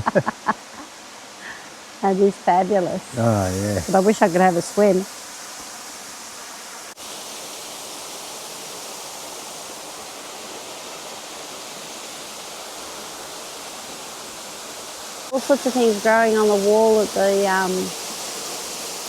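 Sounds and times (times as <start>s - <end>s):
waterfall pouring into a pool: 3.1s - 19.0s.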